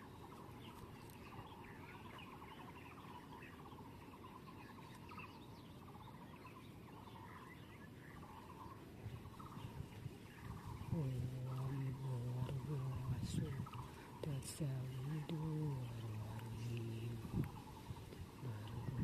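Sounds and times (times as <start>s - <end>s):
birds trilling and chirping: 0.0s - 19.0s
low background rumble: 0.0s - 19.0s.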